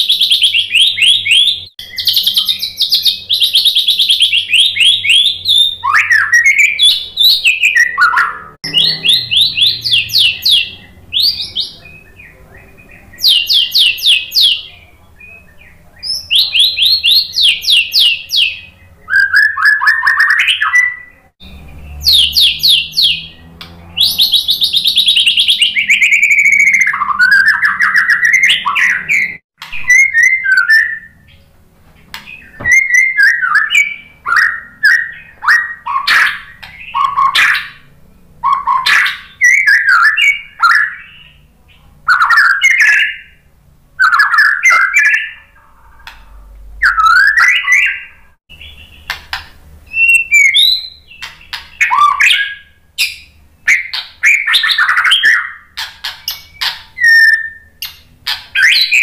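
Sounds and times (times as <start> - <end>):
bird singing whistled phrases: 0.0 - 31.4, 32.3 - 37.8, 38.4 - 41.5, 42.1 - 43.4, 44.0 - 46.2, 46.8 - 49.1, 49.9 - 58.0, 58.6 - 59.0.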